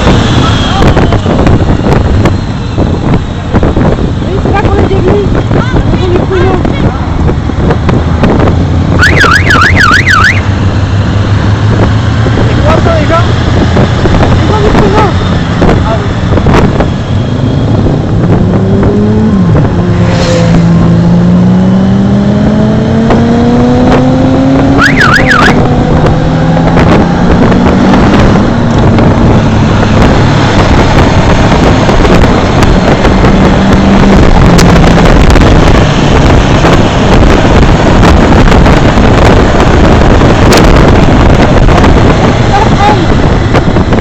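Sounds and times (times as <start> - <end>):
motorcycle engine accelerating: 0.0 - 44.0
wind noise on microphone: 0.0 - 44.0.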